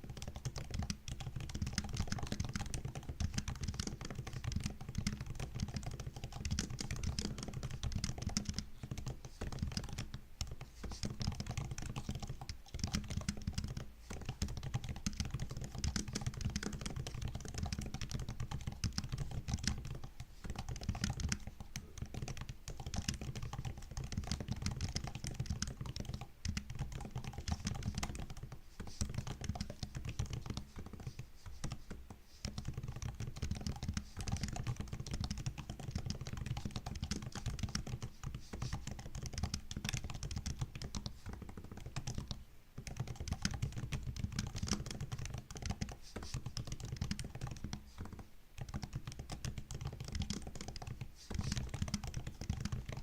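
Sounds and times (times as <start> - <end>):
laptop keyboard typing: 0.0 - 53.0.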